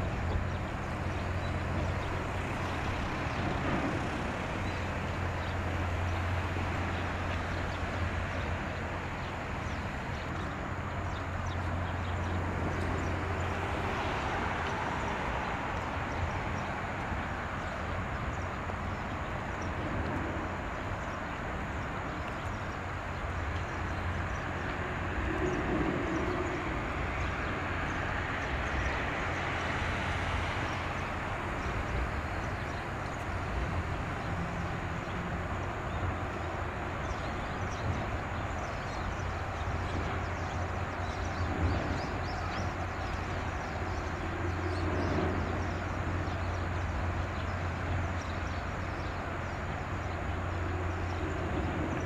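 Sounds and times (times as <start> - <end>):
boat engine rumble: 0.0 - 52.0.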